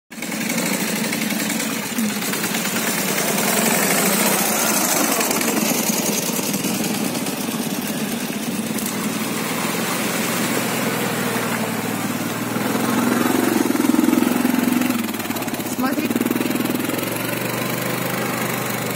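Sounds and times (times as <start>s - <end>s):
atv engine running: 0.1s - 18.9s
motorcycle engine running: 0.1s - 18.9s
vehicle splashing through puddle: 0.2s - 18.9s.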